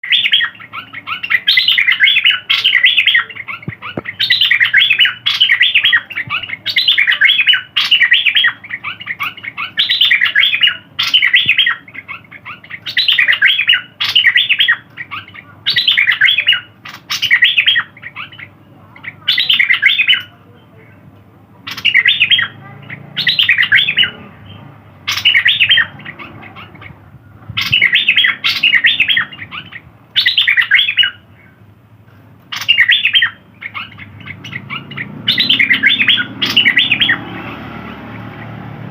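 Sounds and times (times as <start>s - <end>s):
songbird chirping song: 0.0s - 38.9s.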